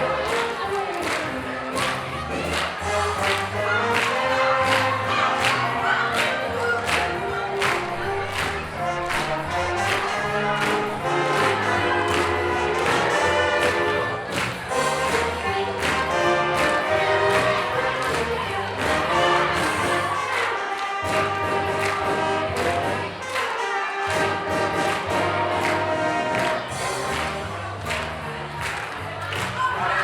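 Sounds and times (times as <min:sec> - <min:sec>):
music with singing voices: 0:00.0 - 0:30.0.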